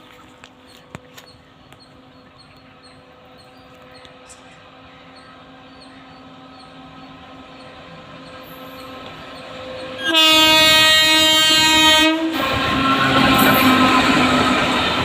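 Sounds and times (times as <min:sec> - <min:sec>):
electric locomotive humming: 0:00.0 - 0:15.0.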